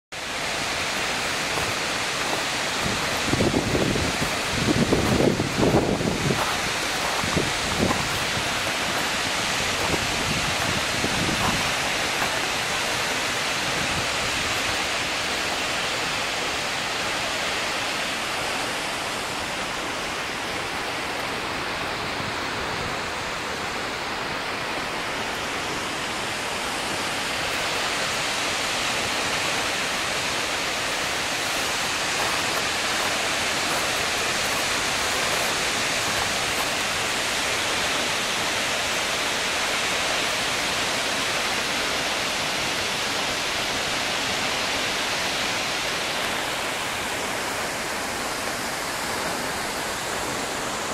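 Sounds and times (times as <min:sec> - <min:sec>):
waterfall roaring: 0:00.2 - 0:50.9.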